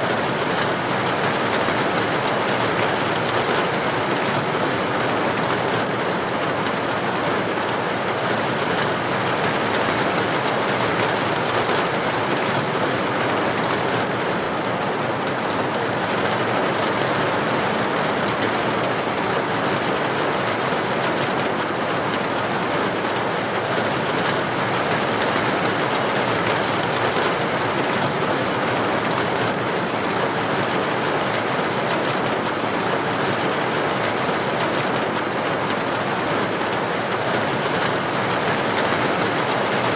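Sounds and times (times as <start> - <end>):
heavy rain on a street: 0.0 - 39.9.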